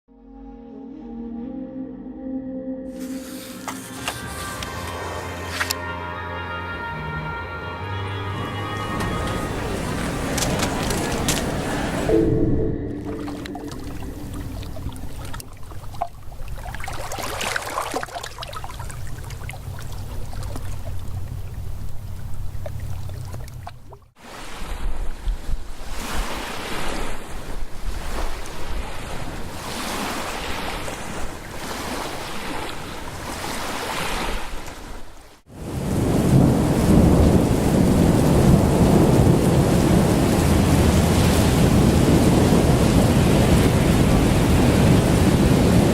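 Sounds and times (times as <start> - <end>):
waves washing in: 8.4 - 45.9.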